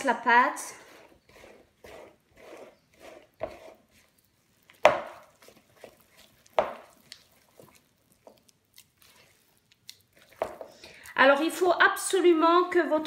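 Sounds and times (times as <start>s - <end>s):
hands squishing dough in bowl: 0.0s - 13.0s.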